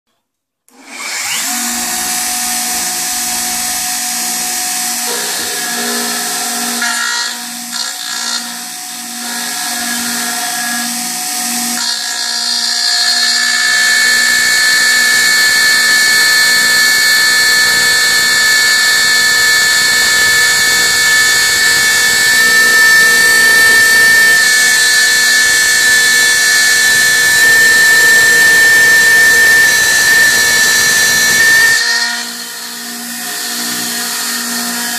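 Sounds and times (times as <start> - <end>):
router cutter whine milling metal: 0.7 - 34.9
router running: 0.7 - 34.9.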